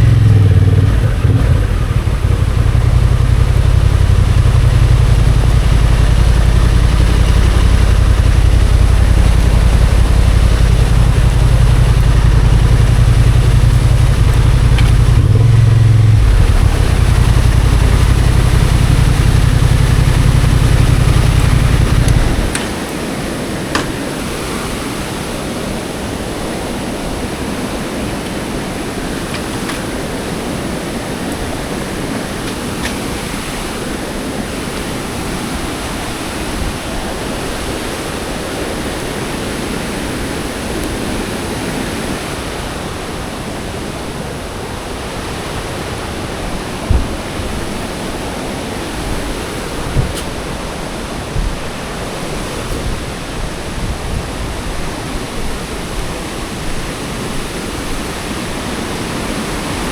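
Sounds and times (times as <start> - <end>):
motorcycle engine running: 0.0 - 43.4, 45.3 - 50.5
wind rumble on microphone: 0.0 - 59.9.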